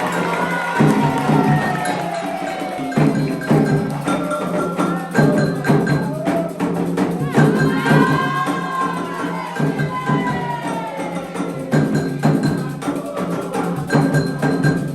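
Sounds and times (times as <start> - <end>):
bell-like percussion tone: 0.0 - 14.9
hand percussion: 0.0 - 14.9
voices singing a chant: 0.0 - 14.9.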